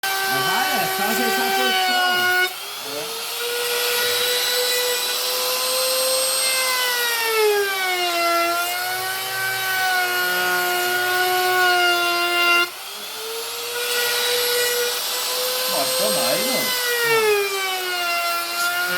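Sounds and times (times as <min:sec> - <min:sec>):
hiss of wood chips cut: 0:00.0 - 0:11.6, 0:12.2 - 0:18.9
router motor whine: 0:00.0 - 0:18.9.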